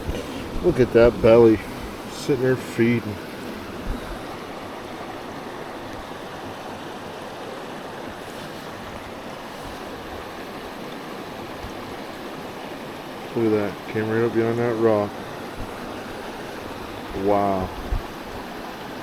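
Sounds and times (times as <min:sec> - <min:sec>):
mountain stream flowing: 0:00.0 - 0:19.0.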